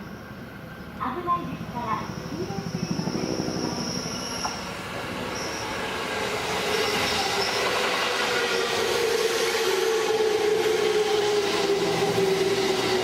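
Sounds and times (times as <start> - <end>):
electric train rumble: 0.0 - 13.0
train wheels whining: 0.0 - 13.0.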